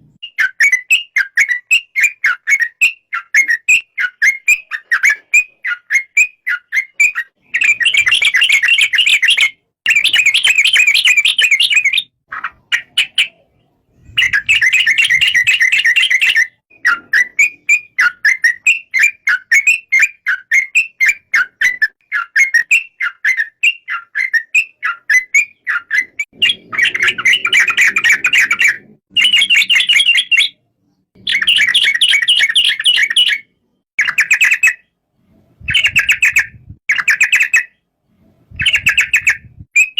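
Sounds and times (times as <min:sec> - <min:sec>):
bird singing bubbling chirps: 0:00.1 - 0:34.9.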